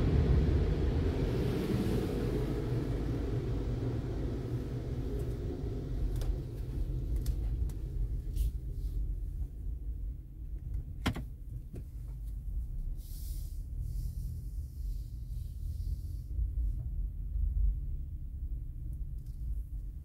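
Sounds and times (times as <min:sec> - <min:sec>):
car rumble inside cabin: 0:00.0 - 0:20.0.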